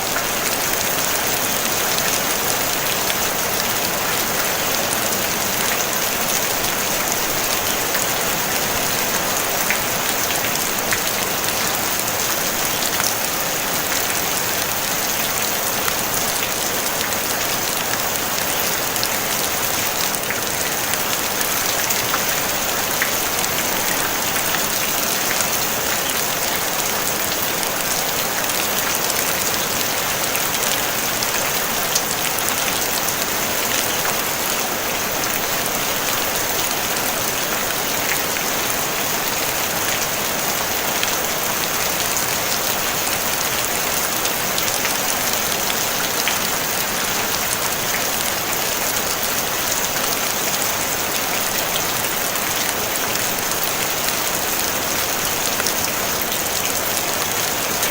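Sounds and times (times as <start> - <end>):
rain on a tin roof: 0.0 - 57.9.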